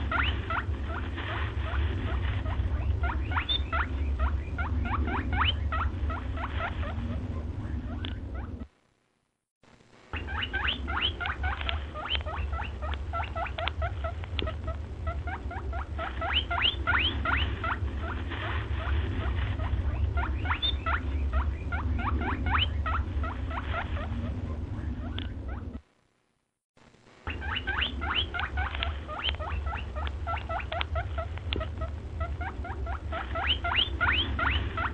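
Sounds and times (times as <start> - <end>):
small animal squeaking: 0.0 - 8.7, 10.2 - 25.8, 27.3 - 34.9
low hum: 0.0 - 34.9.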